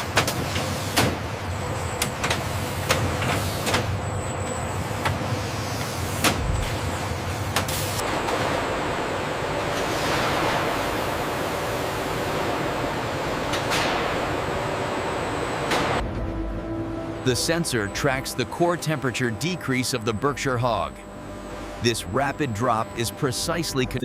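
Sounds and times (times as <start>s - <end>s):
machinery low hum: 1.2s - 24.0s.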